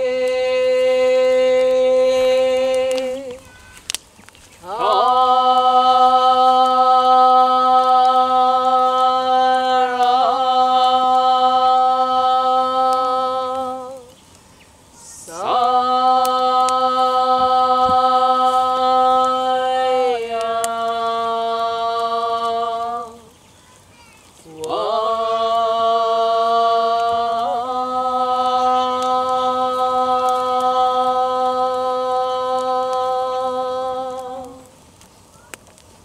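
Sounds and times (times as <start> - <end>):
person chanting long notes: 0.0 - 3.7, 4.6 - 14.1, 15.2 - 23.3, 24.5 - 34.7.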